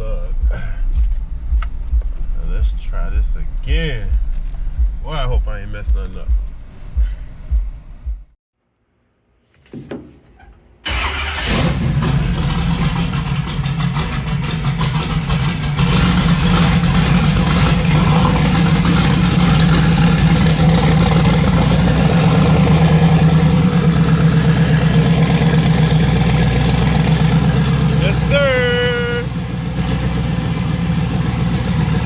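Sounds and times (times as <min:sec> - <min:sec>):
car engine starting and running: 0:00.0 - 0:08.1, 0:10.8 - 0:32.0.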